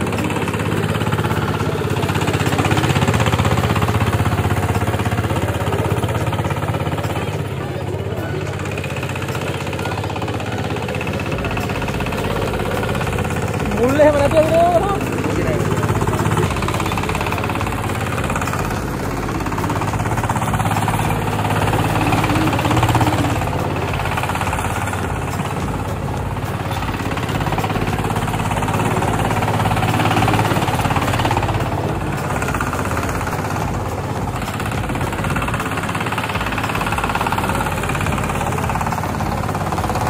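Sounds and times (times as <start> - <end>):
diesel engine knocking: 0.0 - 40.0.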